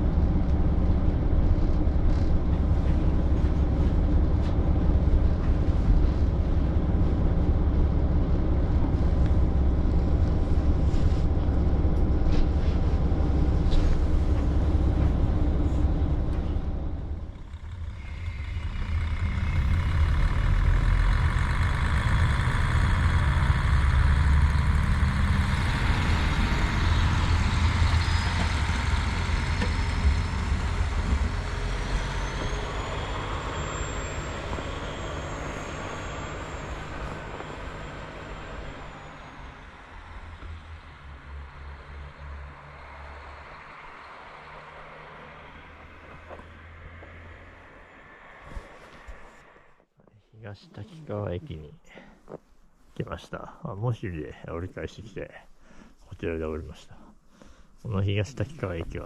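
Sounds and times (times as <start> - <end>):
diesel engine rumble: 0.0 - 49.8, 56.0 - 59.0
wheel and rail noise: 0.0 - 49.8.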